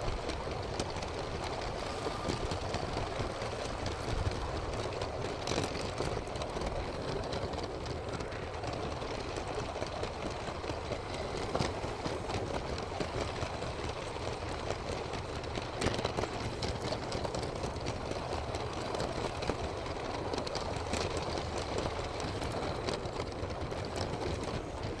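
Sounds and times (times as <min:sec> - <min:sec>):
light clicks over plastic track: 0:00.0 - 0:25.0.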